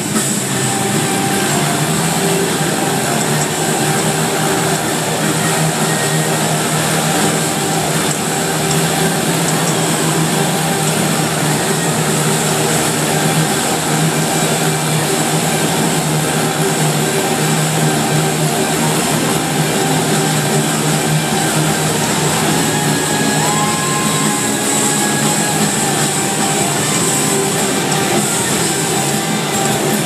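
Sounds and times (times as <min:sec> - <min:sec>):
motorcycle engines droning: 0:00.0 - 0:30.0.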